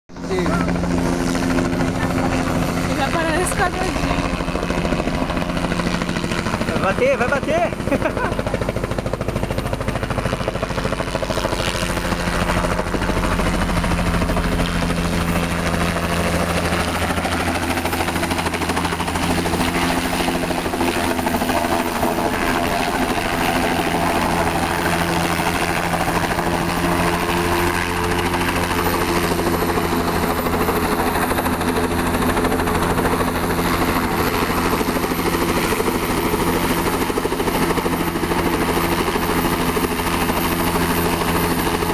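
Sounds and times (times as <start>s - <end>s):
helicopter engine and rotor: 0.1s - 41.9s.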